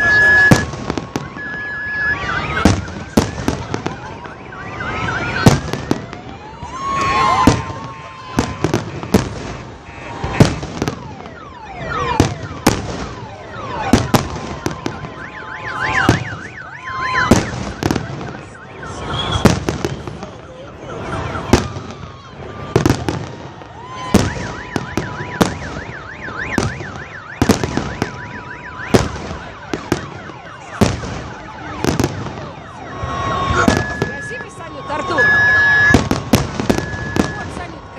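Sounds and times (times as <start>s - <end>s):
fireworks bangs: 0.0s - 37.9s
fireworks crackling: 0.0s - 37.9s
fireworks whistling: 0.0s - 37.9s.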